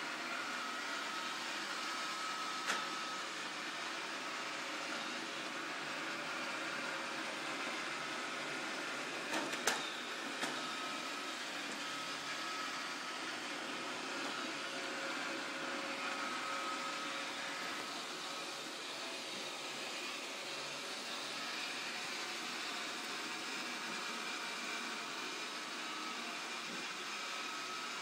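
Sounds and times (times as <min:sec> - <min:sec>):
robot vacuum whirring: 0:00.0 - 0:28.0.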